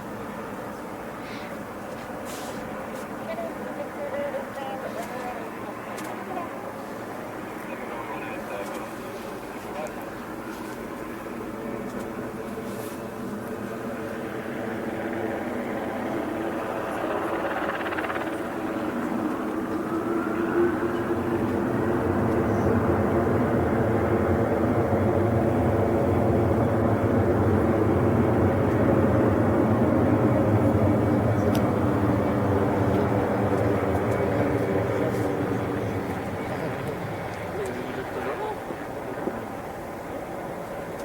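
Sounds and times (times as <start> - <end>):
airliner engines humming: 0.0 - 41.0.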